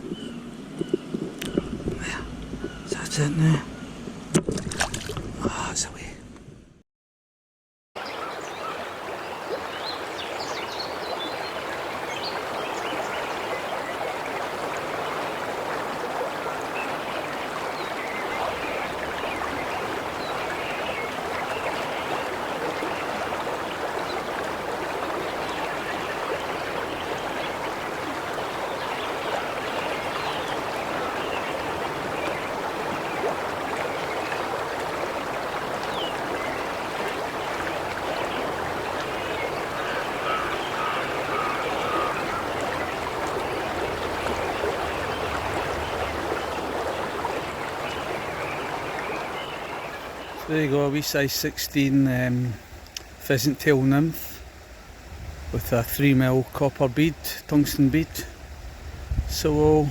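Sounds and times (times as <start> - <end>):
river water running over stones: 8.0 - 59.5.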